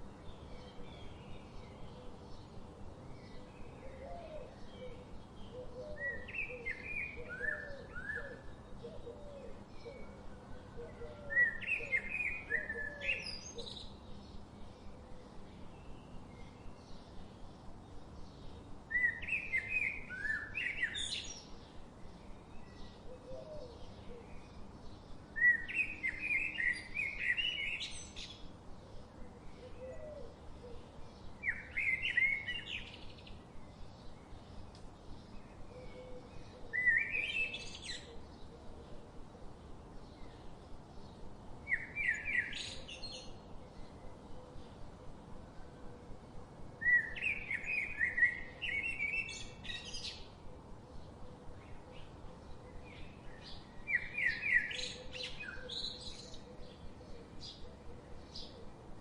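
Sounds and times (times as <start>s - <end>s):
songbird chirping phrase: 0.0s - 59.0s.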